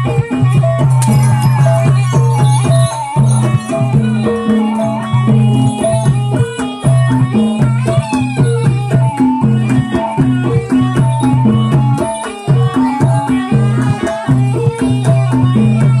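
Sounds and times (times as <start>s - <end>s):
ensemble melodic pattern: 0.0s - 16.0s
steady drumming and percussion: 0.0s - 16.0s.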